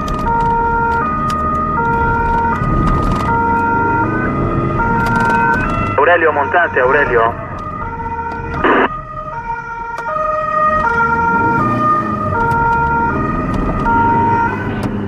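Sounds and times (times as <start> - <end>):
car engine and road rumble: 0.0 - 15.0
two-tone police siren: 0.0 - 15.0.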